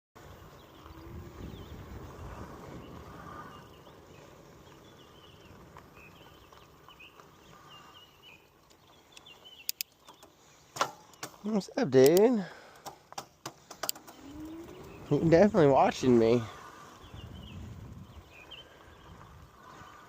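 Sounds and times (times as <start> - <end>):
bird chirping: 0.2 - 20.0.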